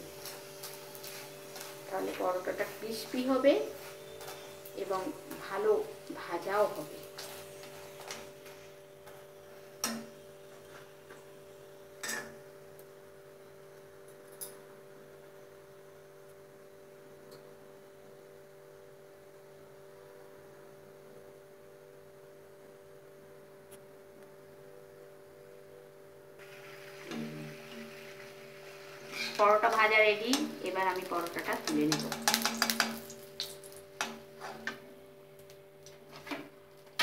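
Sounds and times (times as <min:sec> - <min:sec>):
faint hum: 0:00.0 - 0:37.0.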